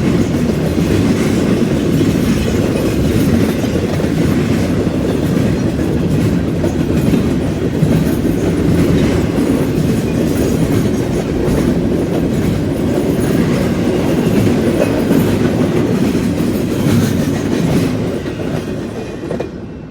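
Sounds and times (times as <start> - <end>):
wheels clicking over rail joints: 0.0 - 19.6
freight train wheels rumbling: 0.0 - 19.9.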